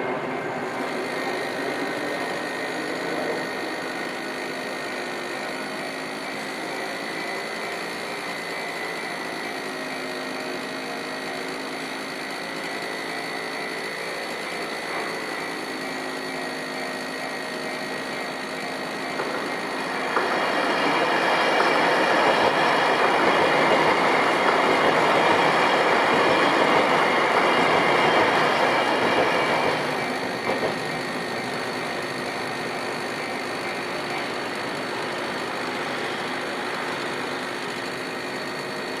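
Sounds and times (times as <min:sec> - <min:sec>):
steady high-pitched tones: 0:00.0 - 0:39.0
train wheels on rails: 0:00.0 - 0:39.0.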